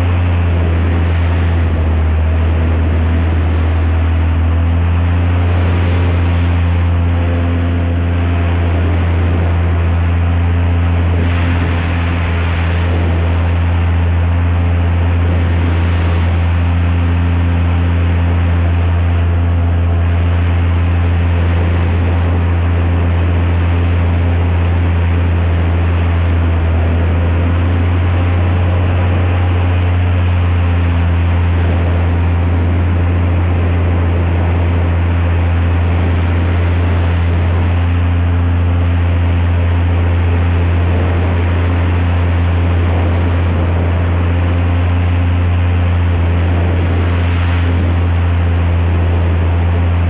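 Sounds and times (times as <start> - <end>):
airboat engine and propeller drone: 0.0 - 50.0.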